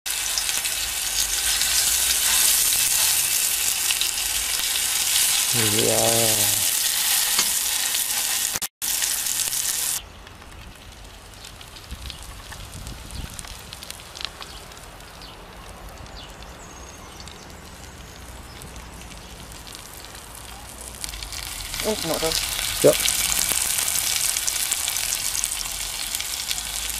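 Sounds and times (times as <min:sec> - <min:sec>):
patties sizzling in fat: 0:00.1 - 0:26.9.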